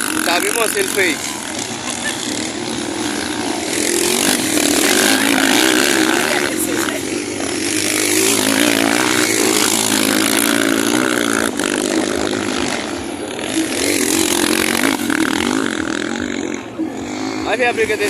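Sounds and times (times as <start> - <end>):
motocross motorcycles revving: 0.0 - 18.0.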